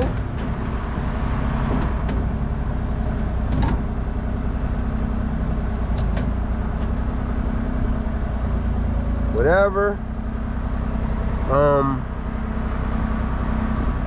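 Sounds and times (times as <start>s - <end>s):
truck engine and road drone: 0.0s - 14.0s.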